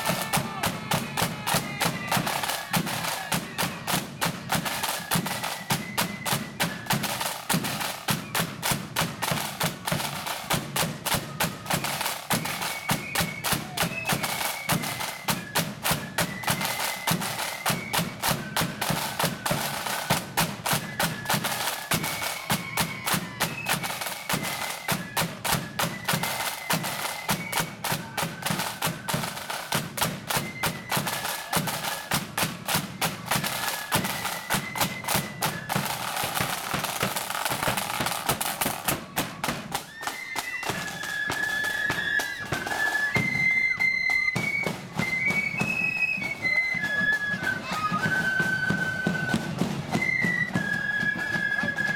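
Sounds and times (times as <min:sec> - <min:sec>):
faint high flute melody: 0:00.0 - 0:51.9
side drum strokes and rolls: 0:00.0 - 0:51.9.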